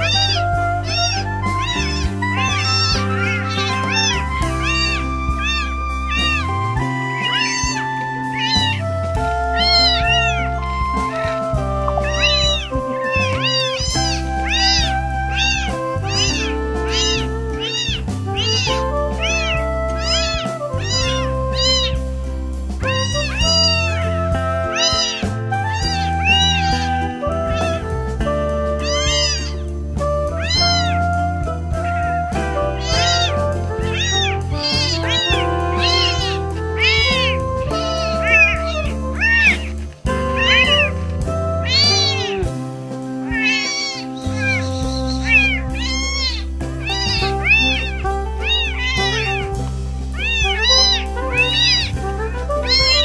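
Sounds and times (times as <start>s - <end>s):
background music with held notes: 0.0s - 53.0s
kittens meowing loudly: 0.0s - 53.0s.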